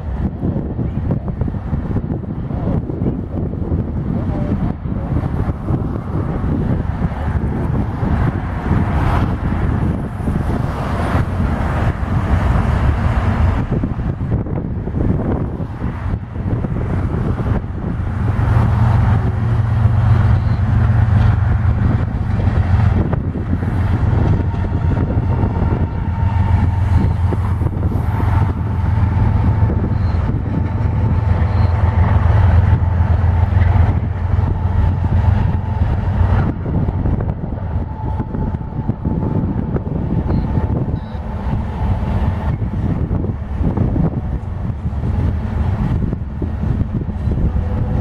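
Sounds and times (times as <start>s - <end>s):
freight train rumbling past: 0.0s - 48.0s.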